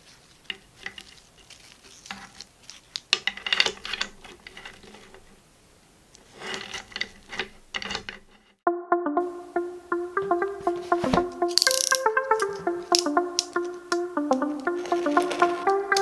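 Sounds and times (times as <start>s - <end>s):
cord rubbing: 0.0s - 5.4s, 6.2s - 8.6s, 10.7s - 16.0s.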